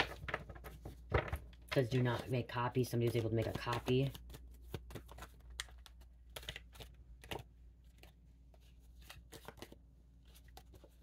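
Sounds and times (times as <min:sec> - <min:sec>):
playing cards being handled: 0:00.0 - 0:11.0.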